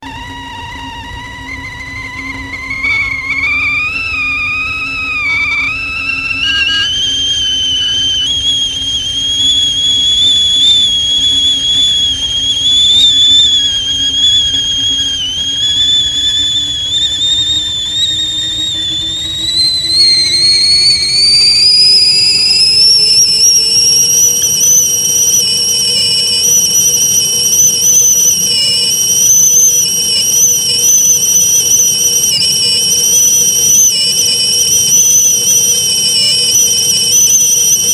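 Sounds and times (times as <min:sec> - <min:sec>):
kettle whistling shrilly: 0:00.0 - 0:37.9.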